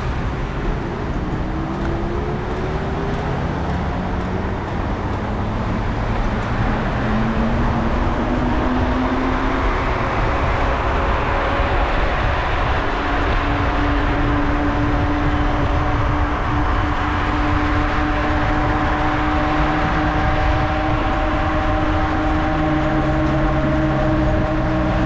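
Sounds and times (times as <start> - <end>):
road traffic noise: 0.0 - 25.0
vehicle engines accelerating: 0.0 - 25.0
wind rumble on microphone: 0.0 - 25.0.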